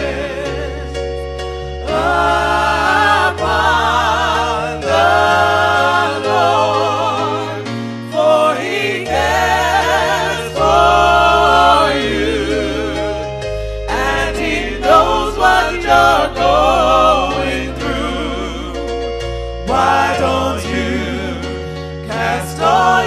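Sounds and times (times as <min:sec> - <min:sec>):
choir singing held notes: 0:00.0 - 0:01.0, 0:01.8 - 0:18.8, 0:19.6 - 0:23.0
low bass accompaniment: 0:00.0 - 0:23.0.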